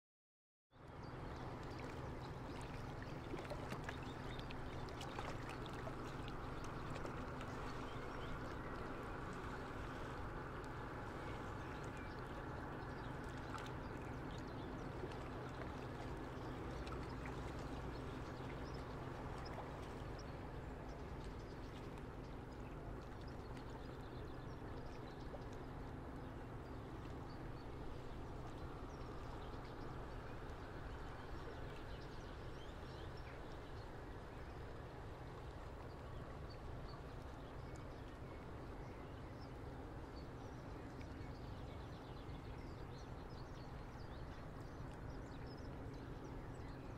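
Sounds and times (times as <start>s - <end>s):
steady low hum: 0.8s - 46.9s
river water washing on breakwater: 1.2s - 46.9s.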